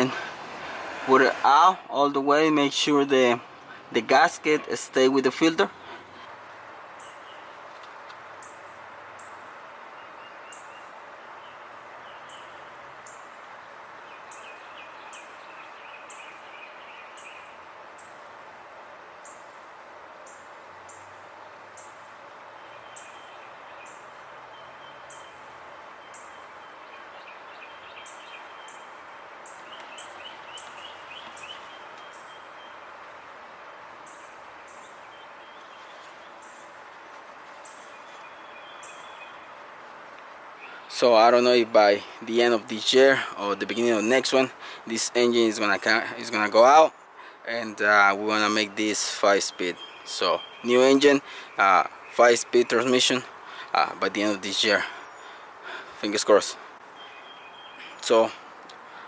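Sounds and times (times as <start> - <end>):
birds chirping and trilling: 0.0 - 18.4, 19.2 - 59.0
distant noise hiss: 0.0 - 59.0.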